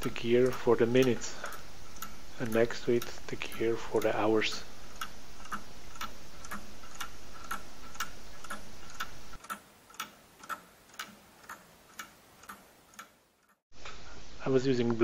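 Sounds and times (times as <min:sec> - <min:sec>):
mechanical clock ticking: 0:00.0 - 0:13.6
background hiss: 0:00.0 - 0:15.0.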